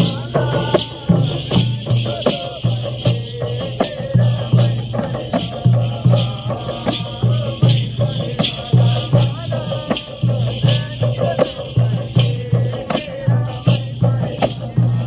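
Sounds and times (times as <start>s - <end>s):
drum beats: 0.0s - 15.0s
hand cymbals clashing: 0.0s - 15.0s.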